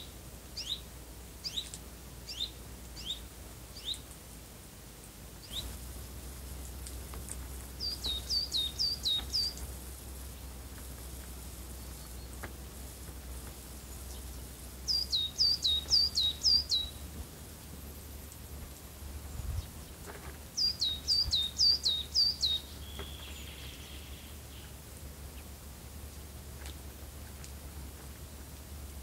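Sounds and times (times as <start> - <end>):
songbird singing: 0.0 - 4.3, 5.0 - 29.0.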